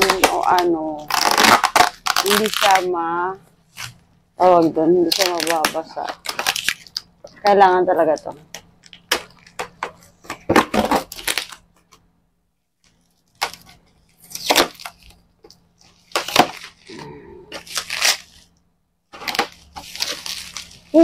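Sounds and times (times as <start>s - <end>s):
packaging crackling and crinkling: 0.0s - 12.1s, 12.8s - 21.0s.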